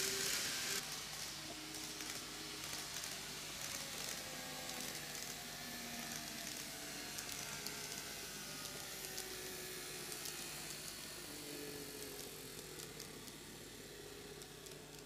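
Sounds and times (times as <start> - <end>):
background hiss: 0.0 - 15.0
model train motor whirring: 0.0 - 15.0
wheels clicking on rails: 0.0 - 15.0.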